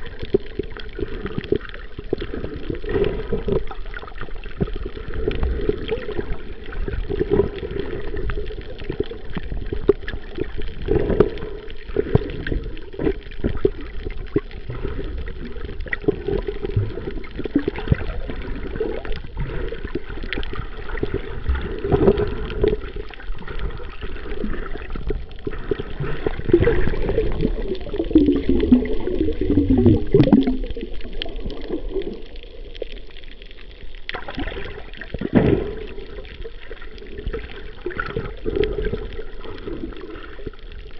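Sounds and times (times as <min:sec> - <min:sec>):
bubbling gurgles: 0:00.0 - 0:40.9
underwater water sloshing: 0:00.0 - 0:40.9.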